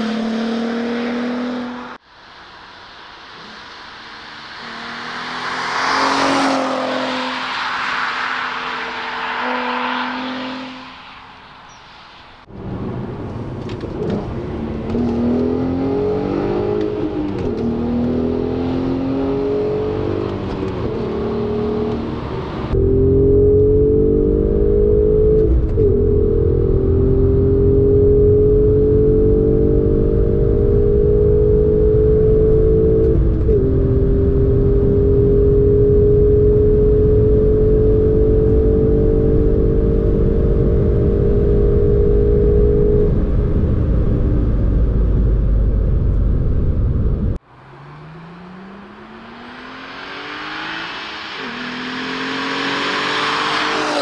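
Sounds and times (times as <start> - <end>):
car engine accelerating hard: 3.3 - 10.9, 12.5 - 54.0.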